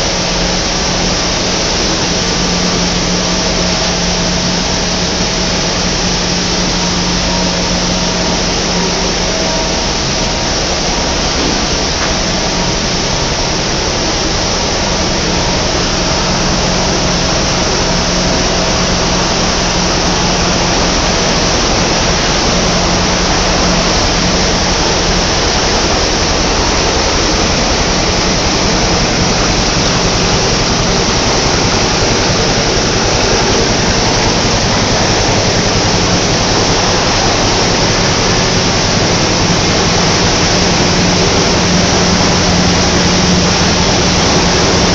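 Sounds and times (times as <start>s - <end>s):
machinery rushing noise: 0.0s - 44.9s.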